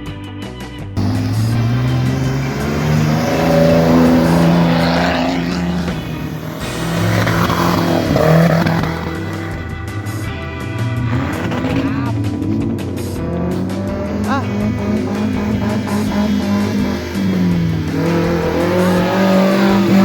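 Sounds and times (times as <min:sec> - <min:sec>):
background music: 0:00.0 - 0:20.0
vehicle engine revving: 0:01.0 - 0:20.0.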